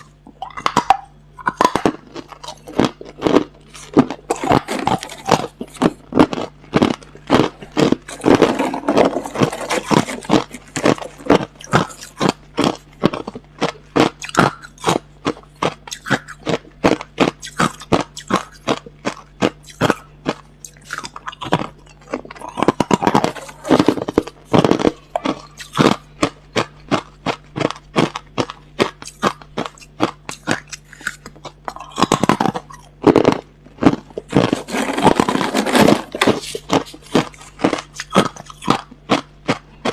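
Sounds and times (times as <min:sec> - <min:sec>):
person chewing ice crunching: 0:00.0 - 0:39.9.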